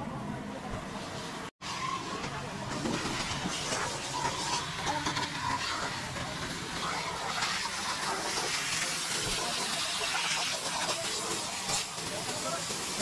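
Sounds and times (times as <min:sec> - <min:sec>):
pressure washer water jet hissing: 0:01.1 - 0:13.0.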